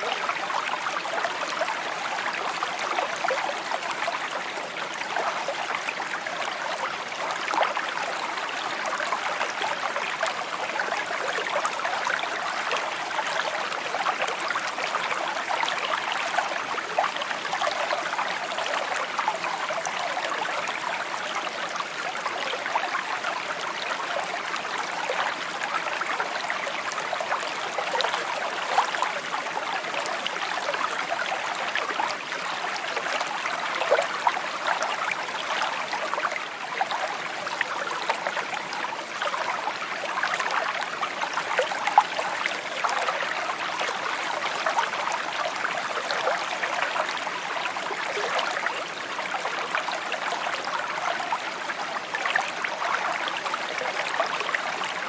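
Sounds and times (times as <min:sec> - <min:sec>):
creek babbling over stones: 0:00.0 - 0:55.0.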